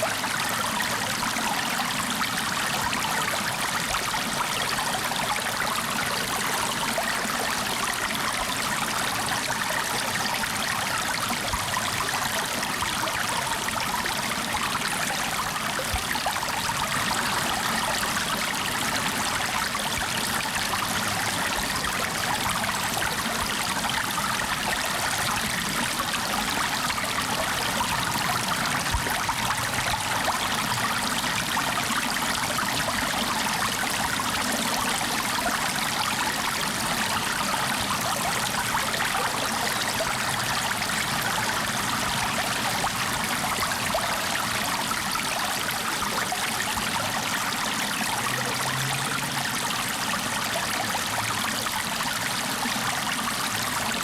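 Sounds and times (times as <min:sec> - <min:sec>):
stream rushing and trickling: 0:00.0 - 0:54.0.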